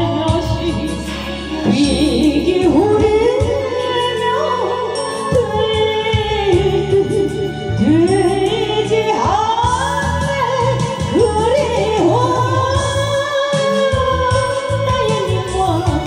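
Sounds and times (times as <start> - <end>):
instrumental accompaniment: 0.0 - 16.0
woman singing with vibrato: 0.0 - 16.0.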